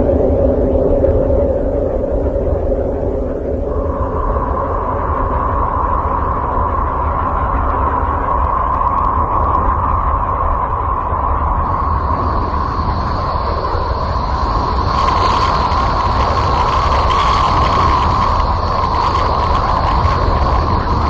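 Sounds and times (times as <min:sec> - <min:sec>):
rumbling drone with hiss: 0:00.0 - 0:21.0.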